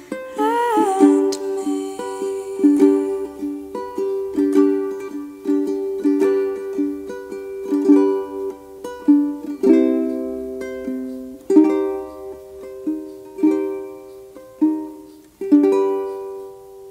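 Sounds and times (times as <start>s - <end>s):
plucked string instrument music: 0.0s - 16.9s.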